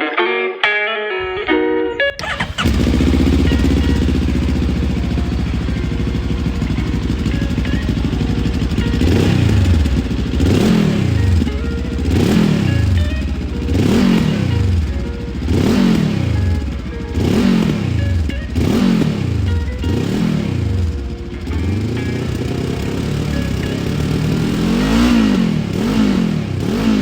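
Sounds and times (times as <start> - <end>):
motorcycle engine idling and revving: 1.2 - 27.0.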